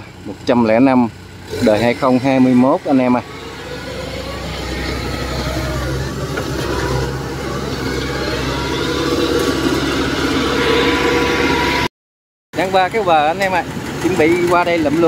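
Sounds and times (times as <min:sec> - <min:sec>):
combine harvester diesel engine: 0:00.0 - 0:11.9, 0:12.6 - 0:15.0.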